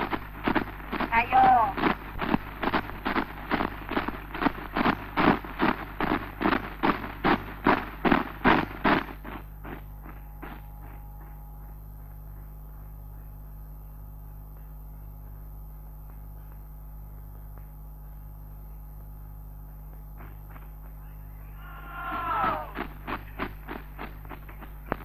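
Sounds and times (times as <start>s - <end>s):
soundtrack hum and hiss: 0.0s - 25.0s.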